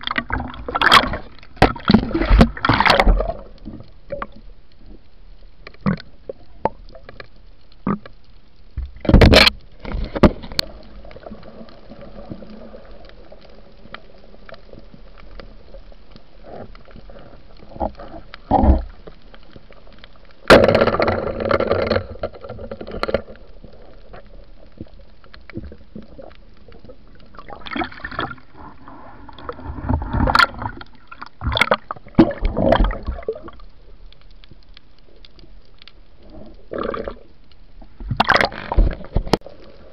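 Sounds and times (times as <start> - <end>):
gurgling churning water: 0.0 - 5.1, 8.8 - 39.9
low steady underwater hiss: 0.0 - 39.9.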